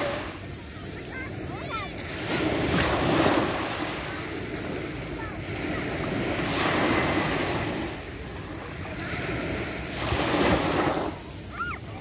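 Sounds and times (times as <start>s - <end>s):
waves washing up a beach: 0.0s - 12.0s.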